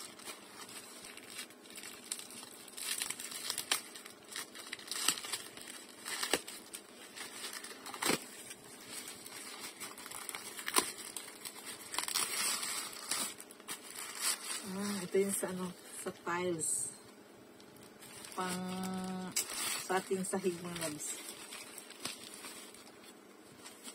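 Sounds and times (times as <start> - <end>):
plastic pouch crinkling and tearing: 0.0 - 15.6, 17.6 - 23.9.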